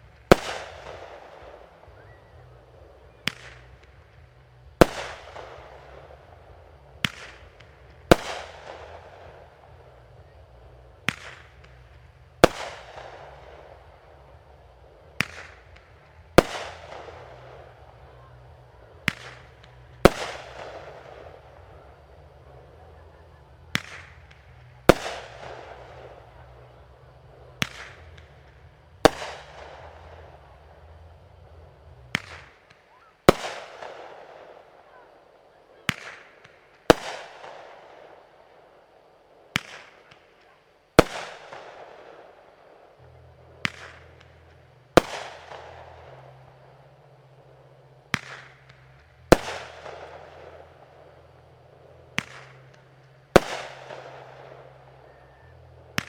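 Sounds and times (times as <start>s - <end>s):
fireworks bangs echoing: 0.0s - 35.0s, 35.8s - 38.2s, 39.5s - 56.0s.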